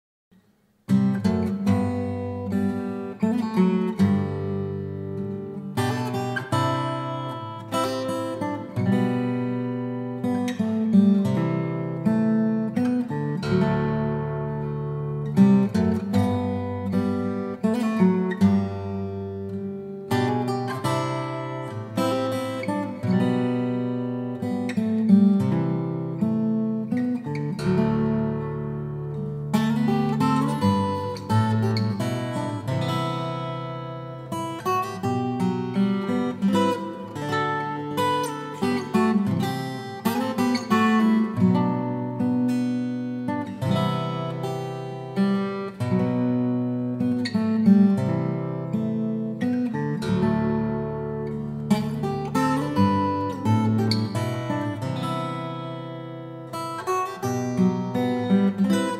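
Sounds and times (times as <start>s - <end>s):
guitar notes and chords: 0.4s - 58.9s.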